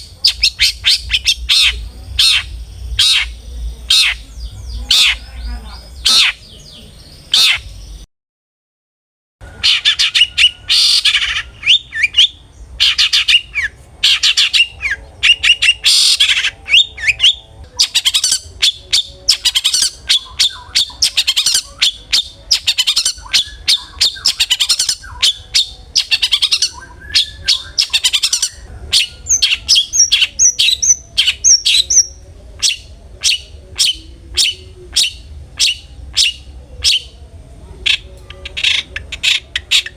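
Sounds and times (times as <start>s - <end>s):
bird singing harsh chatter: 0.0s - 8.1s, 9.4s - 39.9s.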